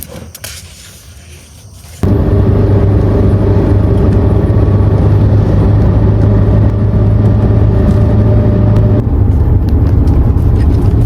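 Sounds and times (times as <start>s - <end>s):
car engine running: 2.0s - 11.0s
road noise: 2.0s - 11.0s.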